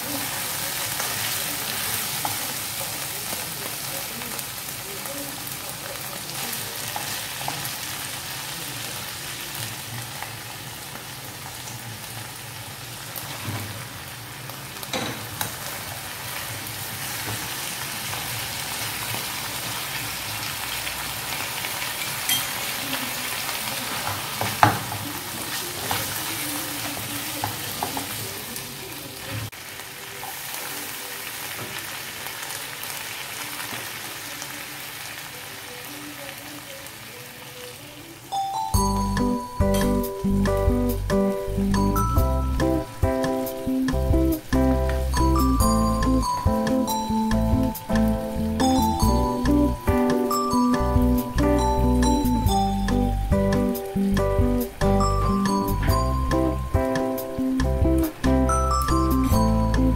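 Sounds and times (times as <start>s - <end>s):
chicken sizzling in a frying pan: 0.0s - 59.9s.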